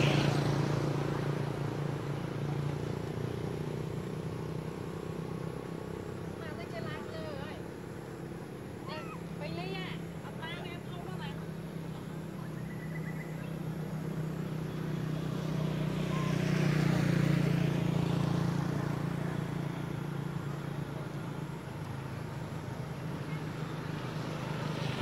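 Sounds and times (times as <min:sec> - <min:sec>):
road traffic engine hum: 0:00.0 - 0:25.0
vehicle passing with tyre rush: 0:00.0 - 0:25.0.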